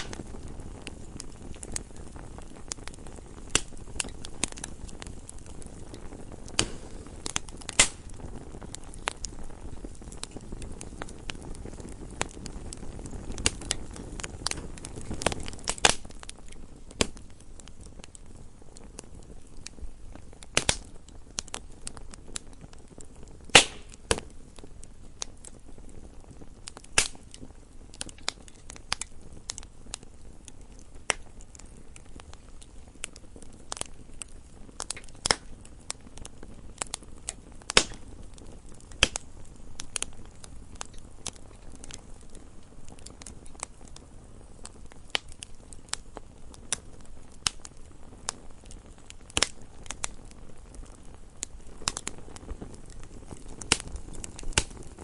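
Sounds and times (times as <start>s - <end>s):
low steady fire hiss: 0.0s - 55.0s
wood fire crackling and popping: 0.0s - 55.0s.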